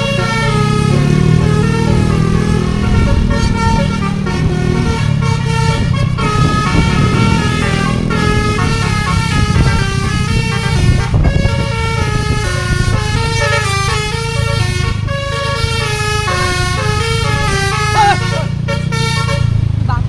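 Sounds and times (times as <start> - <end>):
musical bus air horn playing a tune: 0.0 - 19.7
low rumble of bus: 0.0 - 20.0.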